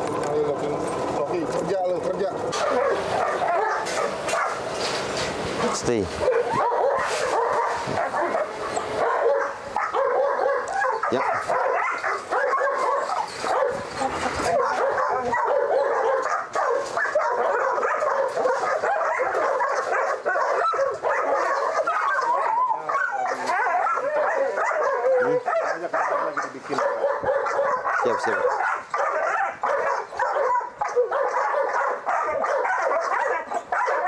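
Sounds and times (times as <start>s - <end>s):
dogs barking yipping and whining: 0.0s - 34.0s.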